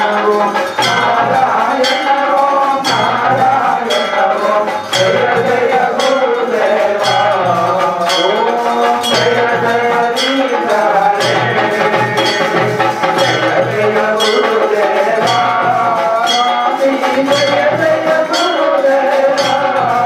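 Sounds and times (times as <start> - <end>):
bell struck ringing: 0.0 - 20.0.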